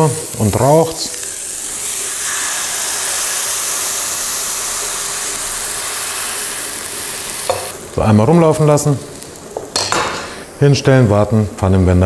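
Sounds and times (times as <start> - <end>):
butter sizzling in a pan: 0.0 - 10.5.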